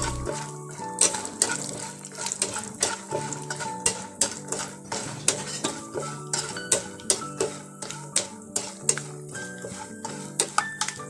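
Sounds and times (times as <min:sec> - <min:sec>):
spatula scraping a pan: 0:00.0 - 0:11.0.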